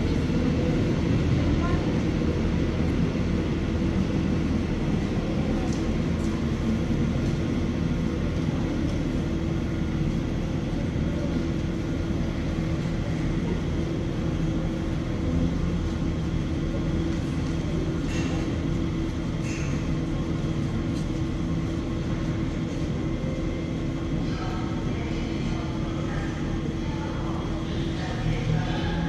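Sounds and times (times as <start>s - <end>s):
train mechanical hum: 0.0s - 29.0s.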